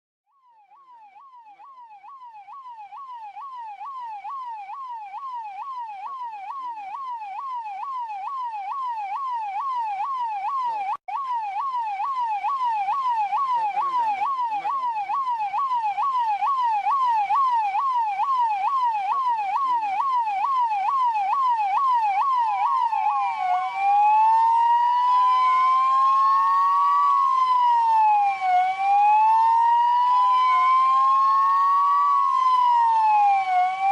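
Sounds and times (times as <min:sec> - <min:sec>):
police siren: 0:00.3 - 0:33.9.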